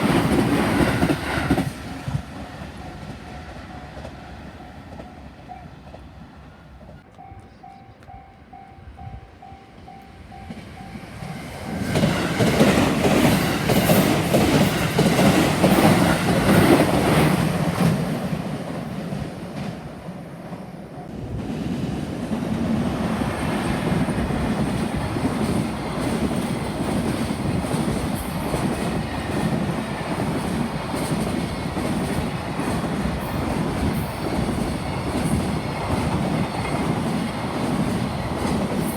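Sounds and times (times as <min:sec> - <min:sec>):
train wheels clacking on rails: 0:00.0 - 0:06.1, 0:09.9 - 0:20.6, 0:21.2 - 0:38.9
train passing with rumble: 0:00.0 - 0:38.9.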